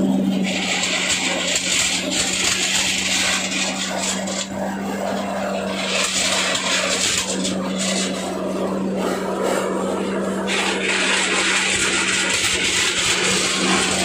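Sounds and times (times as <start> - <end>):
diesel engine hum: 0.0 - 14.0.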